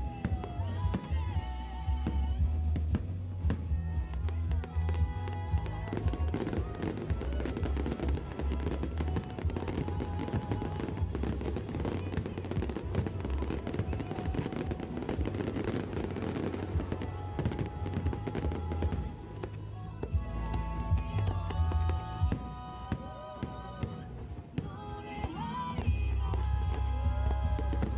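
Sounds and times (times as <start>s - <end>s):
background music: 0.0s - 27.9s
fireworks banging in rapid volley: 0.0s - 27.9s.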